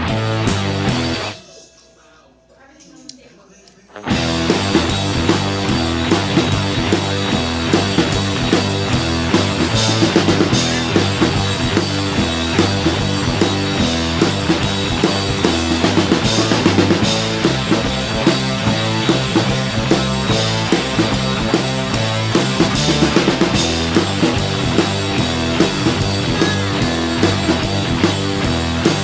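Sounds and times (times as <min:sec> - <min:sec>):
upbeat rock music: 0:00.0 - 0:01.4, 0:04.0 - 0:29.0.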